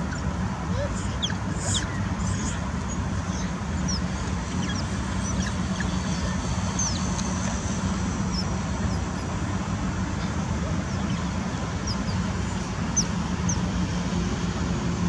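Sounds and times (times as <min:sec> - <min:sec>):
otters squeaking and chirping: 0:00.0 - 0:13.8
road traffic hum: 0:00.0 - 0:15.0.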